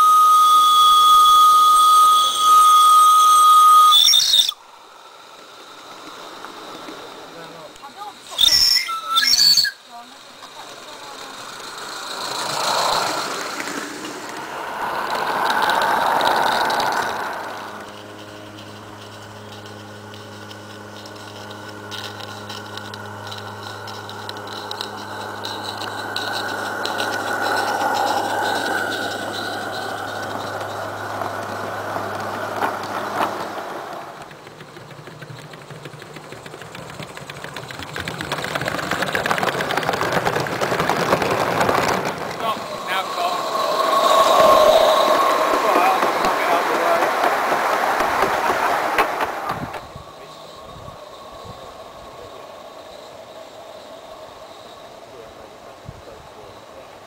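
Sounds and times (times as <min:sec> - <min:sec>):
steam locomotive hissing: 0:00.0 - 0:57.0
train wheels rattling on rails: 0:05.2 - 0:57.0.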